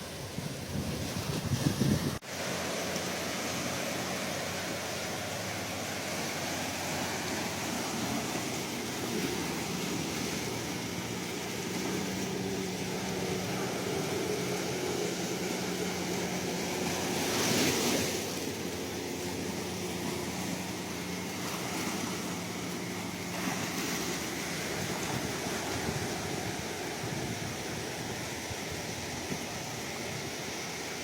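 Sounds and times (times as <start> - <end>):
ocean surf washing: 0.0 - 31.0
wave breaking: 0.0 - 31.0.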